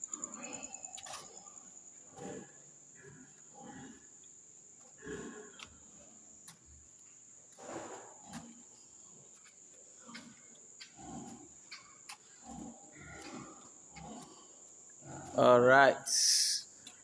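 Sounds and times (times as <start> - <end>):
pigs grunting: 0.0 - 6.8, 7.5 - 16.8
night insects chirring: 0.0 - 17.0.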